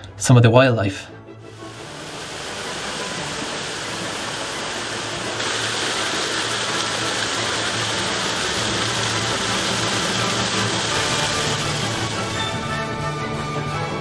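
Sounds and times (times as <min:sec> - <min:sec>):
waterfall splashing into pool: 0:01.5 - 0:12.7.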